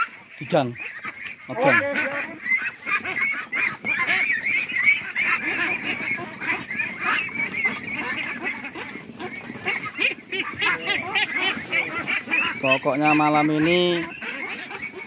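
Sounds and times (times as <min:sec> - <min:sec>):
flock of ducks calling: 0:00.0 - 0:15.0.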